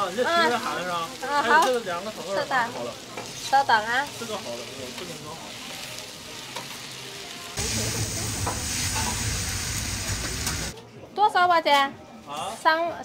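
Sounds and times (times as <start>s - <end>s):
noodles sizzling on a griddle: 0.0s - 10.8s.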